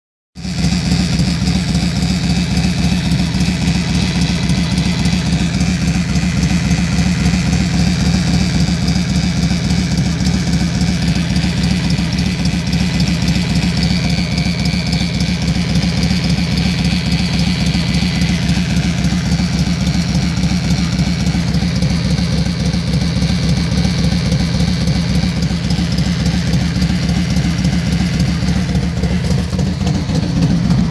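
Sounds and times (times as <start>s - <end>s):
motorcycle engine idling: 0.4s - 30.9s.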